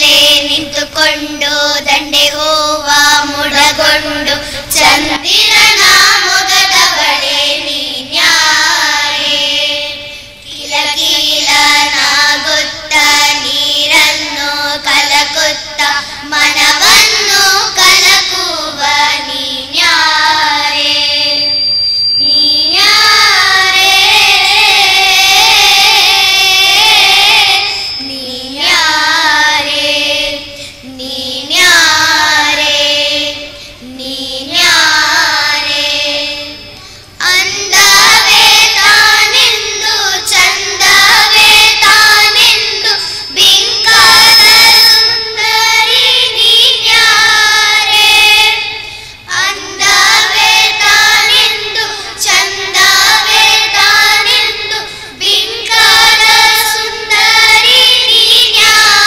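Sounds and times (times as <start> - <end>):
children singing into microphones: 0.0 - 59.0.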